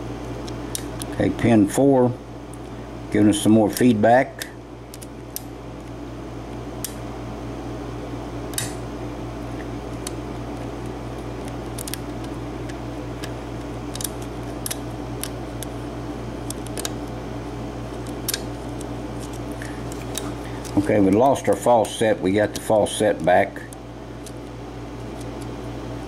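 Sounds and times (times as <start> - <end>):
air conditioner hum: 0.0 - 26.0.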